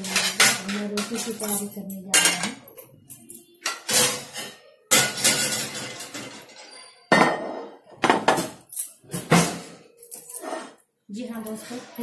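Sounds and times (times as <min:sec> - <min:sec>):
metal kitchen utensils clattering: 0:00.0 - 0:12.0.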